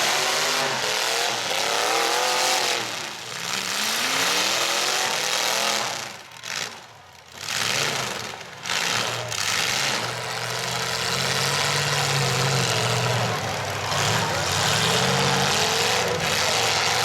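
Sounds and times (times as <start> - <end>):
truck engines running and revving: 0.0 - 17.0.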